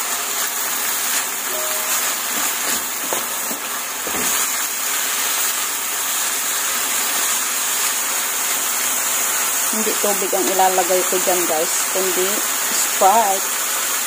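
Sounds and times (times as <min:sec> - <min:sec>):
pork sizzling in oil: 0:00.0 - 0:14.0.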